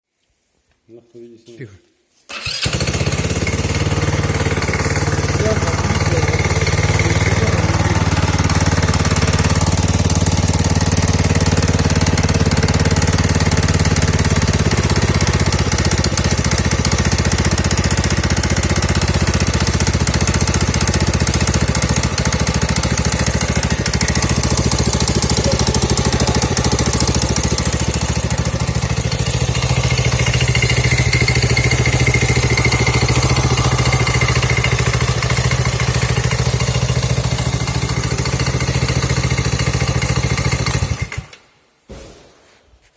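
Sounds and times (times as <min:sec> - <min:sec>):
engine idling with rattling knock: 0:02.5 - 0:41.3.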